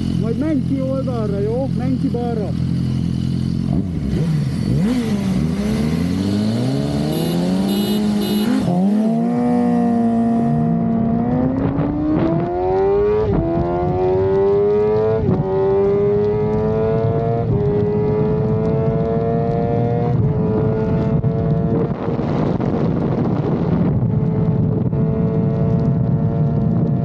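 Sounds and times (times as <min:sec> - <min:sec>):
motorcycle engine accelerating: 0:00.0 - 0:27.0
wind noise: 0:03.7 - 0:27.0.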